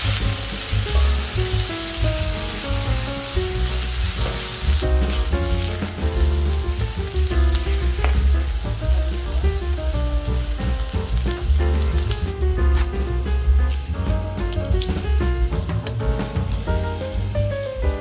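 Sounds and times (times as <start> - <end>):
meat and onion sizzling on griddle: 0.0 - 18.0.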